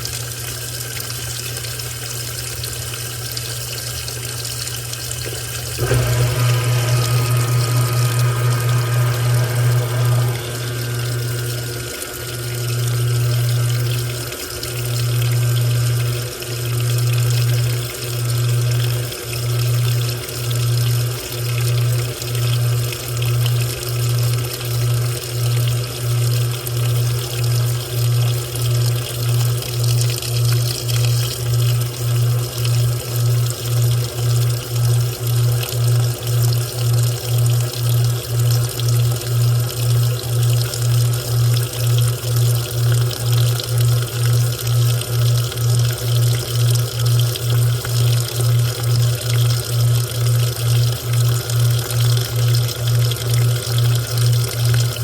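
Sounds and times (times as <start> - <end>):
pulsing pump hum: 0.0 - 55.0
washing machine water sloshing: 0.0 - 55.0.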